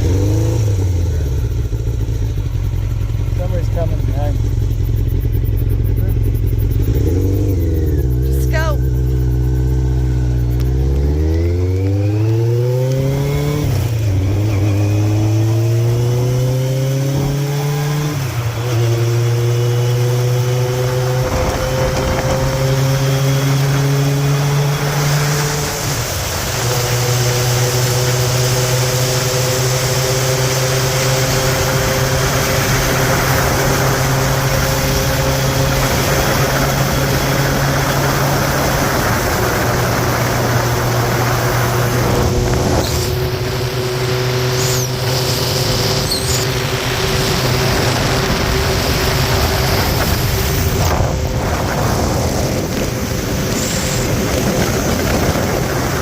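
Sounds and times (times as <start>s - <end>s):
motorcycle engine accelerating: 0.0s - 56.0s
wind noise: 4.8s - 56.0s.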